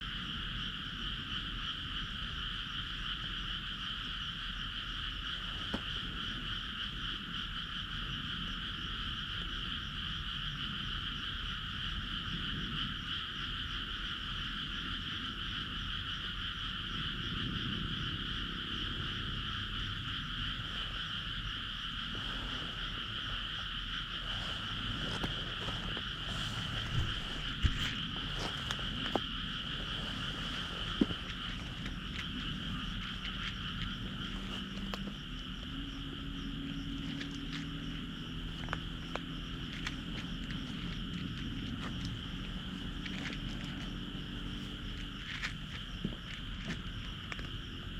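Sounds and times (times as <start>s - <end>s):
frogs calling: 0.0s - 47.9s.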